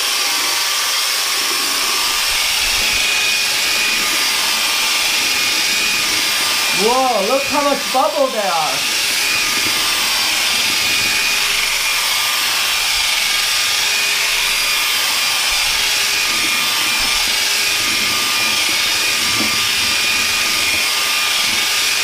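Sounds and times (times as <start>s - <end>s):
cordless drill motor whine: 0.0s - 22.0s.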